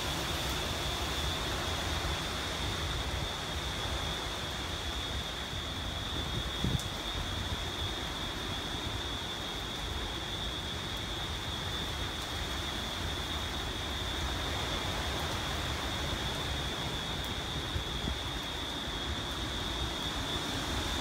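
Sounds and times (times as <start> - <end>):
wind rushing through trees: 0.0 - 21.0.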